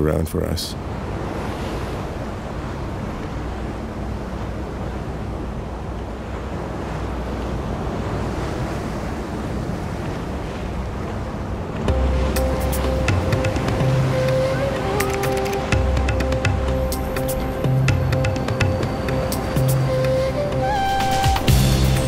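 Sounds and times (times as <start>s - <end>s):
choppy sea: 0.0s - 22.0s.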